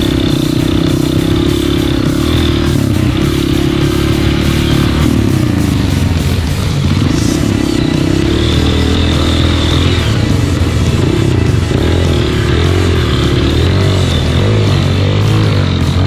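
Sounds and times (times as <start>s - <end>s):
background music: 0.0s - 16.0s
dirt bike engine revving: 0.0s - 16.0s.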